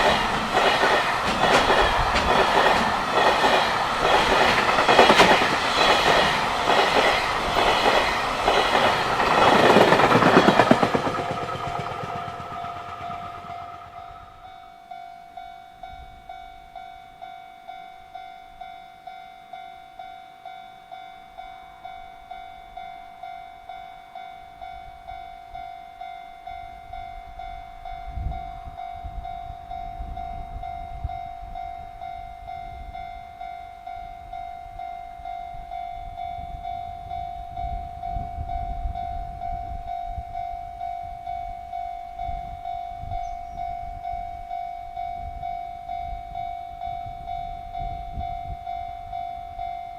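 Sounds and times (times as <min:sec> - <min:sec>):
level-crossing warning bell: 0:00.0 - 0:49.9.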